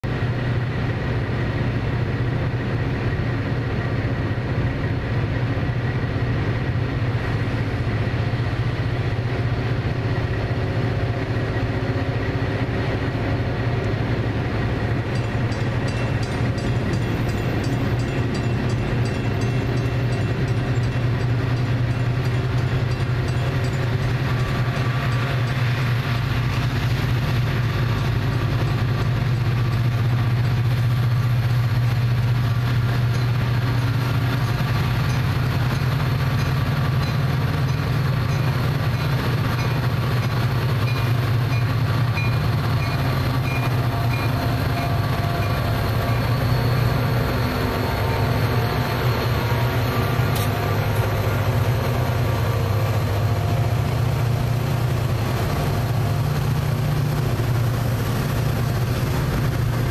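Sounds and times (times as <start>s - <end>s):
diesel locomotive engines labouring: 0.0s - 59.9s.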